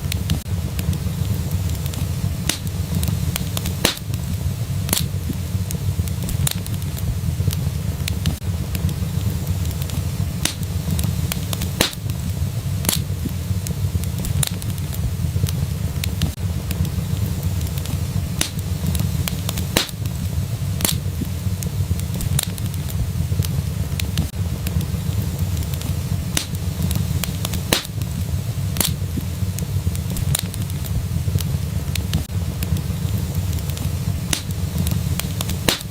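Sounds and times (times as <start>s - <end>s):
low fire rumble: 0.0s - 35.9s
wood fire crackling and popping: 0.0s - 35.9s.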